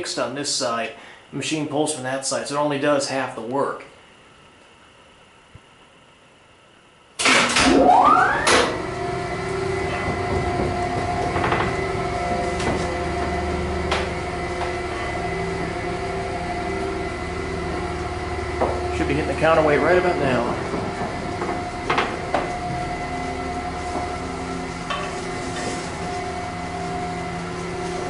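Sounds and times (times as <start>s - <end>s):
elevator motor whine and hum: 2.6s - 28.0s.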